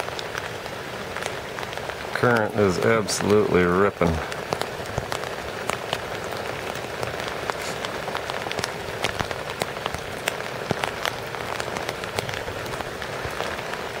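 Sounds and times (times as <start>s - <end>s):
water splashes and patters: 0.0s - 14.0s.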